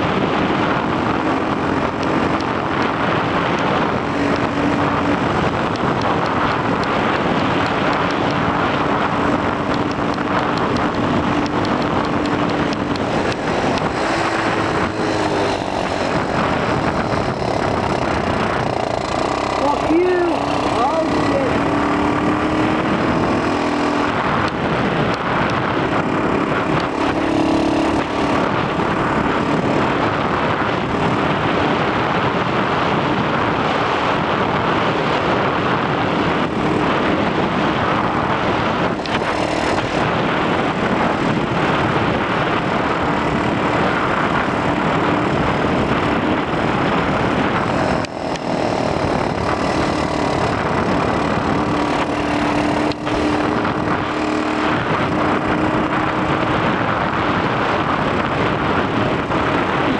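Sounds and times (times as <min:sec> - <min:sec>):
small motorbike engine running: 0:00.0 - 0:59.9
wind noise on microphone: 0:00.0 - 0:59.9.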